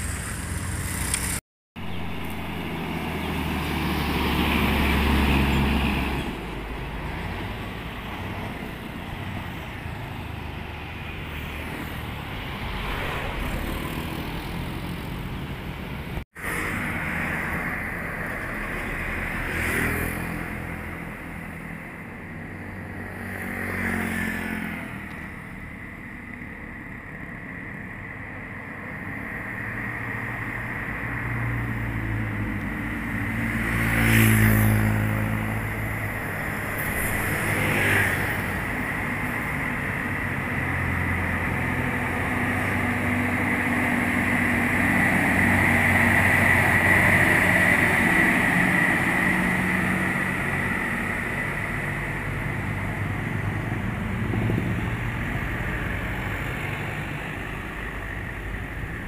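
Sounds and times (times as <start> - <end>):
diesel truck engine climbing: 0.0 - 19.5, 29.1 - 59.0
cars passing: 0.0 - 59.0.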